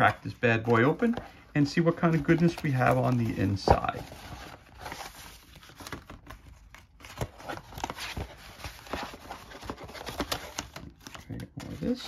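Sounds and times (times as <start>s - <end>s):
paper and card rustling: 0.0s - 12.0s.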